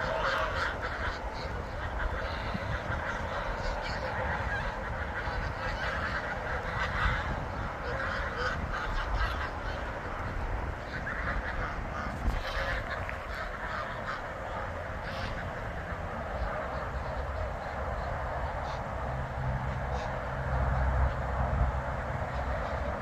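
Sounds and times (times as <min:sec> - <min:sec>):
geese honking: 0:00.0 - 0:23.0.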